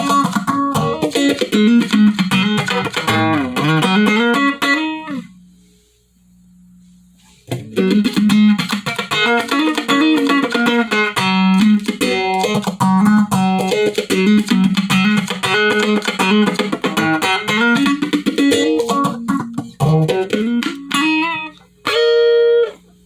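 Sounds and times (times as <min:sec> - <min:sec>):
electric guitar with phaser: 0:00.0 - 0:05.4, 0:07.4 - 0:23.0.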